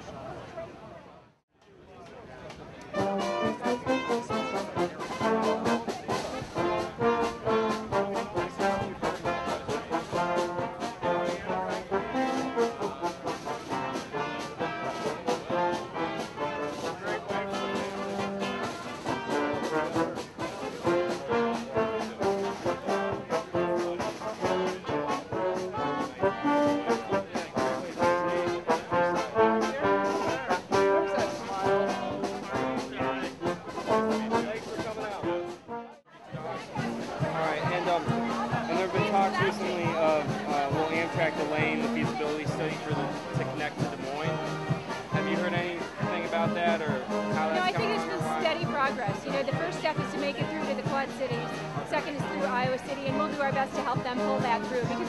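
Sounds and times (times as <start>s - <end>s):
live brass band playing: 2.9s - 55.0s.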